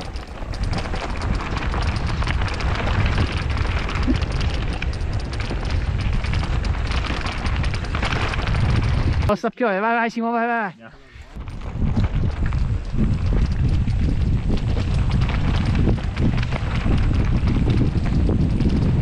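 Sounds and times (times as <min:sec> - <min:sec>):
bike tyres crunching over gravel: 0:00.0 - 0:09.3, 0:11.2 - 0:19.0
wind buffeting microphone: 0:00.0 - 0:09.4, 0:11.1 - 0:19.0
bike rattling: 0:00.0 - 0:19.0.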